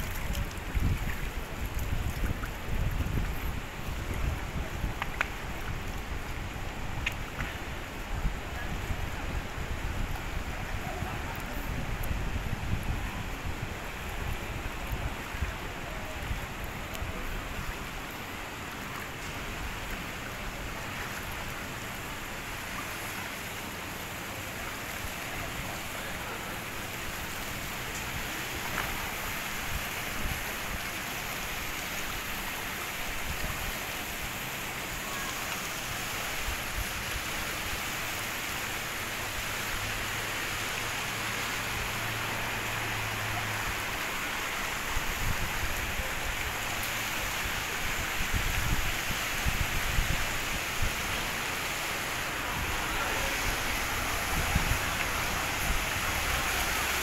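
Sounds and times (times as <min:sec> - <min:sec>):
rain-like outdoor hiss: 0:00.0 - 0:57.0.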